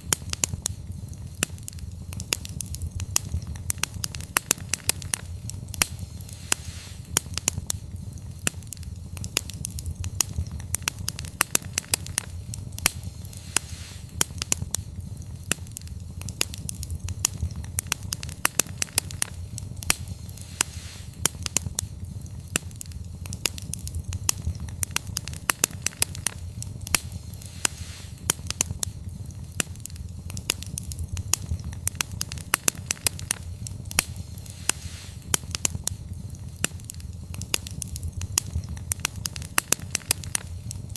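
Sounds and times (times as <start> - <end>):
campfire crackling and popping: 0.0 - 40.9
steady low rumble: 0.0 - 40.9.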